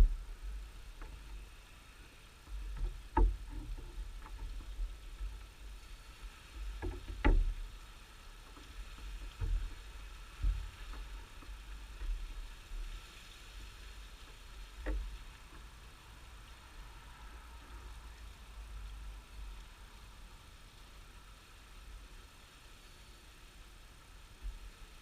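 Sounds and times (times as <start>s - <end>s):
faint steady background noise: 0.0s - 25.0s.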